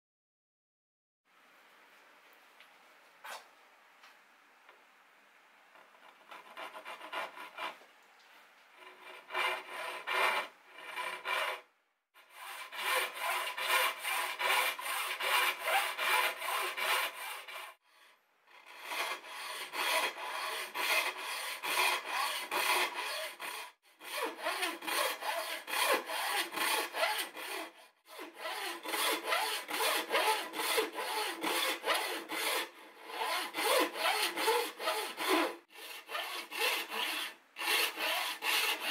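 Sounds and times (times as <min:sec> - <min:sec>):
handsaw cutting wood: 0:05.8 - 0:07.8, 0:08.7 - 0:38.9.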